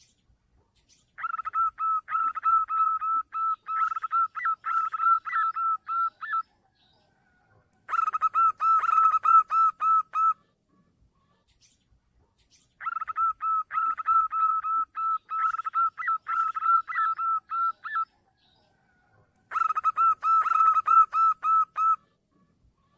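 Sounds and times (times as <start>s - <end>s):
dove calling: 0.0s - 22.9s.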